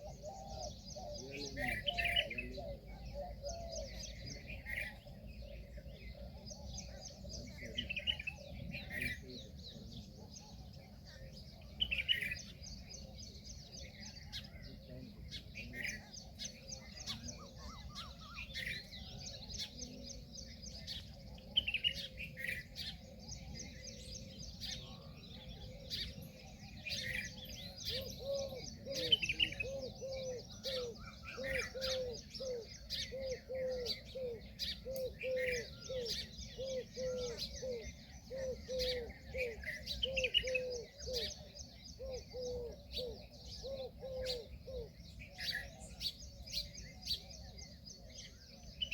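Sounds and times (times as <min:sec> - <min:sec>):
birds chirping: 0:00.0 - 0:48.9
short lower bird calls: 0:00.0 - 0:48.9.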